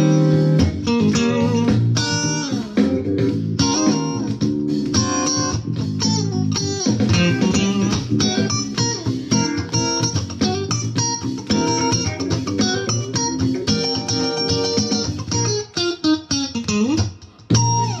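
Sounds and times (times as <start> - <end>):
electric guitar funk chords: 0.0 - 18.0.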